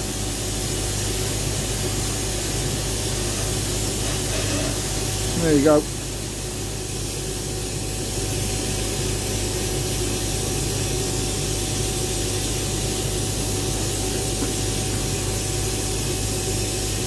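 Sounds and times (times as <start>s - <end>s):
sandblaster hissing: 0.0s - 17.0s.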